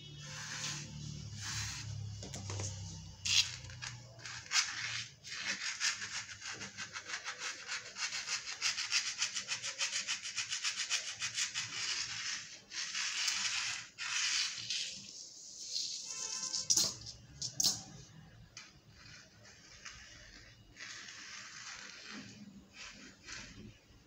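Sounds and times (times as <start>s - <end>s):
cat scratching tablecloth: 0.0s - 18.0s, 18.9s - 24.0s.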